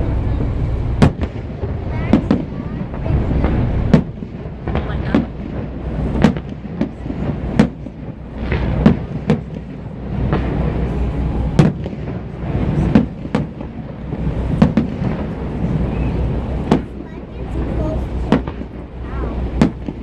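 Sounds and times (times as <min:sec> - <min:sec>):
fireworks bangs with echo: 0:00.0 - 0:20.0
steady low rumble: 0:00.0 - 0:20.0.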